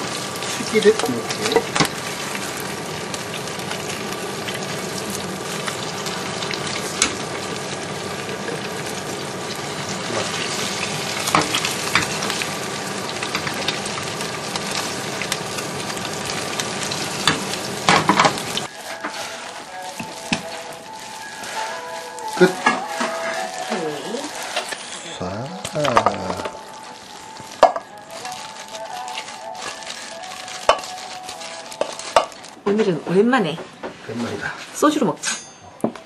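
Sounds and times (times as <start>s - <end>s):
oil popping: 0.0s - 24.8s, 25.6s - 32.6s
meat patties sizzling in oil: 0.0s - 25.0s, 25.7s - 32.5s.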